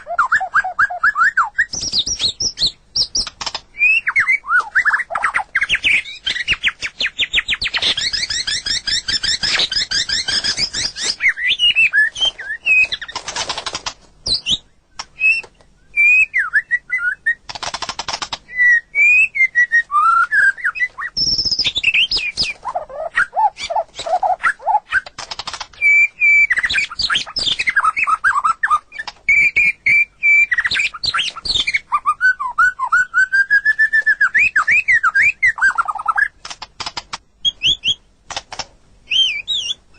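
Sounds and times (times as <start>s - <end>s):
songbird singing varied song: 0.0s - 13.1s, 14.2s - 17.5s, 18.5s - 36.4s, 39.0s - 39.9s.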